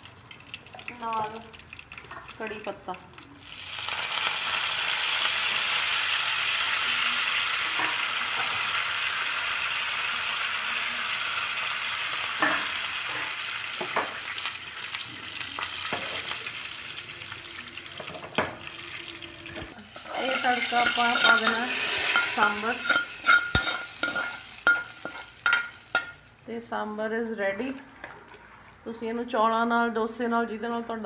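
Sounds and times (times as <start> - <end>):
seeds sizzling in hot oil: 0.0 - 26.5.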